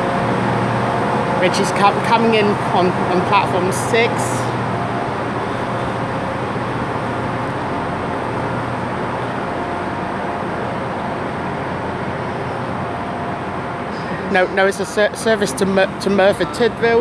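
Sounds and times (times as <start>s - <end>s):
constant low hum: 0.0s - 17.0s
distant diesel trains: 0.0s - 17.0s.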